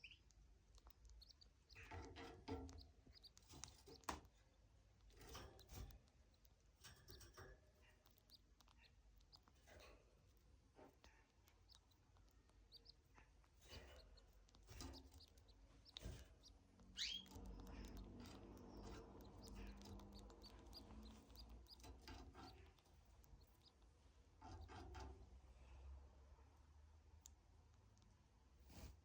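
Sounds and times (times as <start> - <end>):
canary chirping: 0.0 - 25.4.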